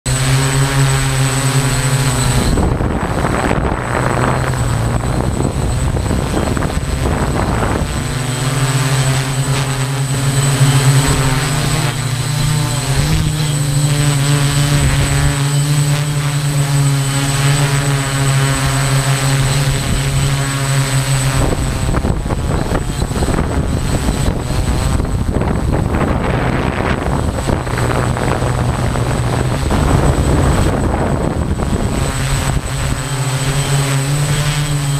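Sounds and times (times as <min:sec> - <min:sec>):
drone propellers humming: 0:00.1 - 0:34.9.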